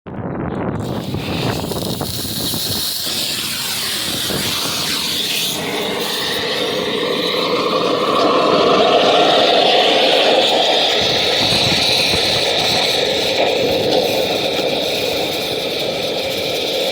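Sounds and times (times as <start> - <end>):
oxygen lance hissing: 0.8 - 16.9.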